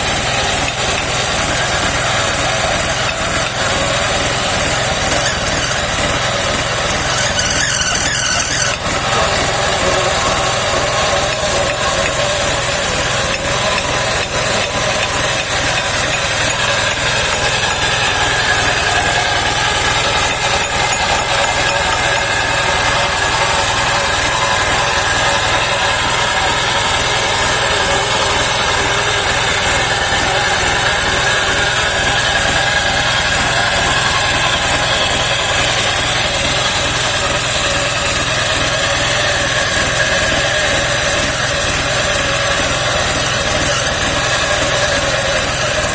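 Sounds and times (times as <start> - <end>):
circular sawmill droning: 0.0 - 45.9.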